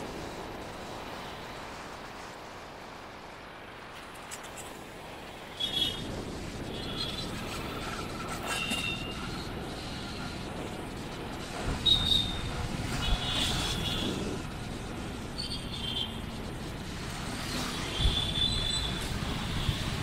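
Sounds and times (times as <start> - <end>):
rumble of traffic: 0.0 - 20.0.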